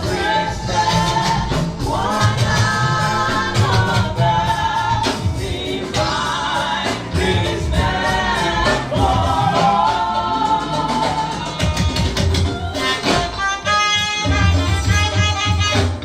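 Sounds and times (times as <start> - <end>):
congregation and choir singing hymn: 0.0 - 13.3
gospel band with drums and bass: 0.0 - 16.0.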